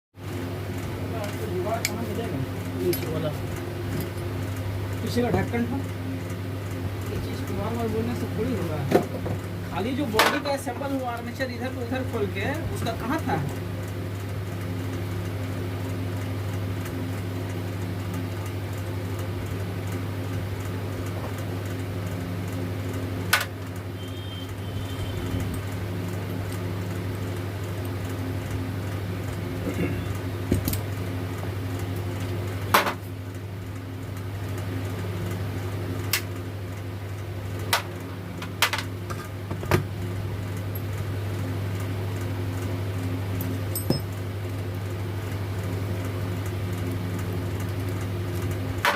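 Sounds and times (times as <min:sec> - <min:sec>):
electric fan humming: 0:00.2 - 0:48.9.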